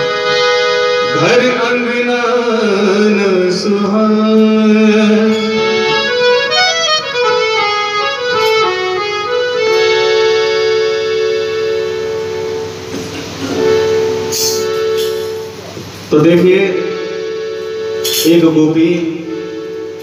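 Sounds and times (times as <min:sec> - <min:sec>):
harmonium melody: 0:00.0 - 0:20.0.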